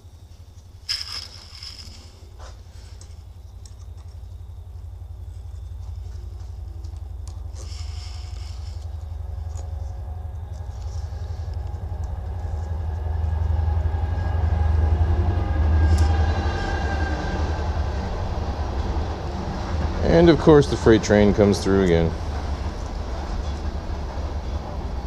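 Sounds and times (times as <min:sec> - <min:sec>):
freight train rumbling past: 0:04.3 - 0:25.0.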